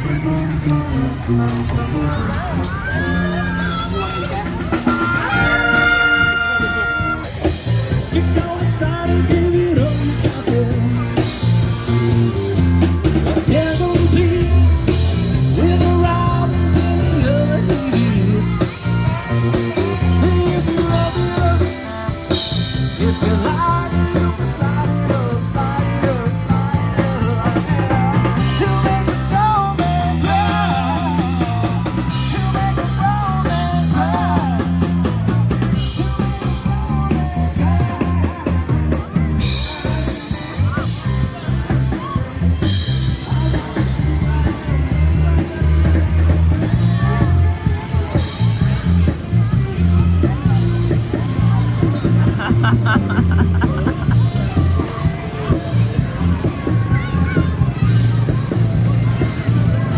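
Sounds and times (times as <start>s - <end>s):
rock song with singing: 0.0s - 59.9s.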